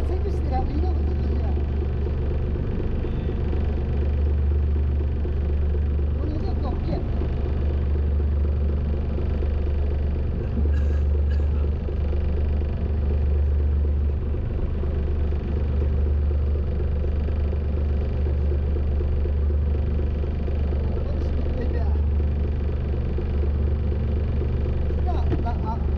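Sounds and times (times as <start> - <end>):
boat engine rumbling: 0.0 - 25.9.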